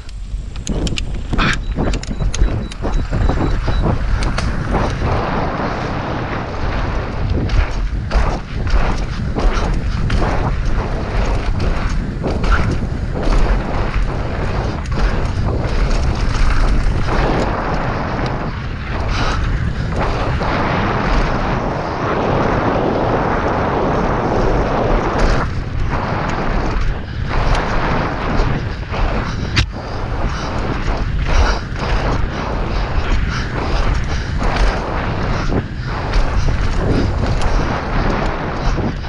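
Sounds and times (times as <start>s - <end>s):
bike knocking and rattling: 0.0s - 39.0s
tyres on wooden bridge: 0.0s - 39.0s
wind buffeting microphone: 0.0s - 39.0s
tyre rumble: 1.1s - 39.0s.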